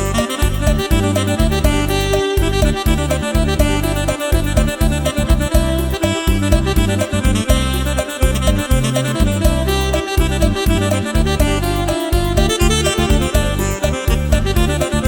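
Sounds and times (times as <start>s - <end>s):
upbeat keyboard dance music: 0.0s - 15.0s.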